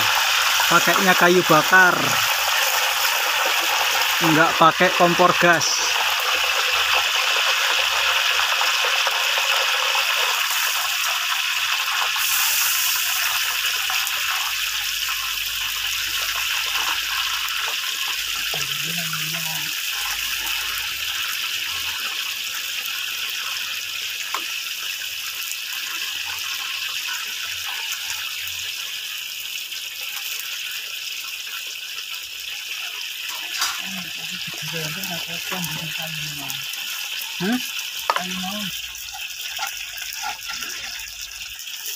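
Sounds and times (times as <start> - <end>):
banana slices sizzling in oil: 0.0 - 41.9.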